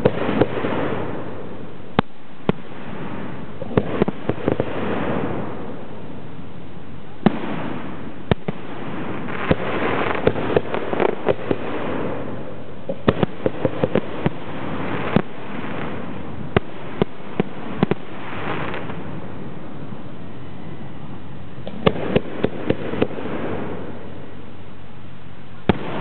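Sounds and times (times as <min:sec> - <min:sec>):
fireworks booming: 0:00.0 - 0:06.4, 0:07.1 - 0:24.6, 0:25.6 - 0:26.0.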